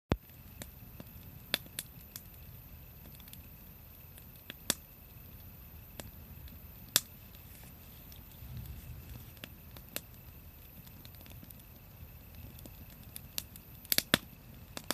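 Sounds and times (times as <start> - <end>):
faint low rumble: 0.1 - 14.9
wood fire crackling: 0.1 - 14.9.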